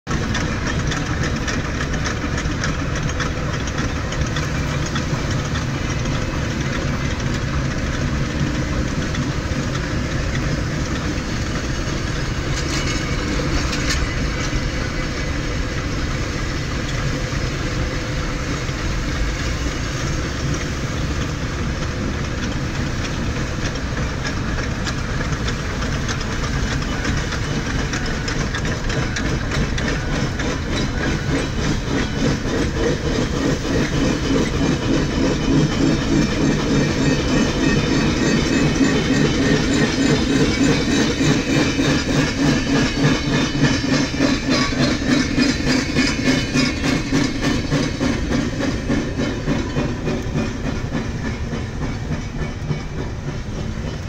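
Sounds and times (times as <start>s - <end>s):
diesel locomotives running: 0.0s - 54.0s
train rolling: 0.0s - 54.0s
road and tyre noise: 0.1s - 54.0s.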